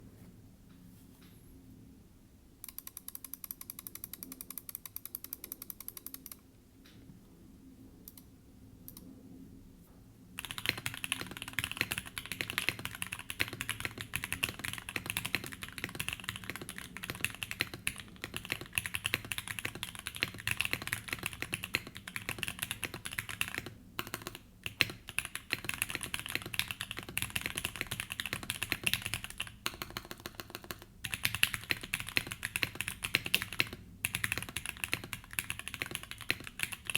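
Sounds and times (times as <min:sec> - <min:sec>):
mechanical keyboard typing: 0:02.6 - 0:06.4, 0:10.4 - 0:36.9.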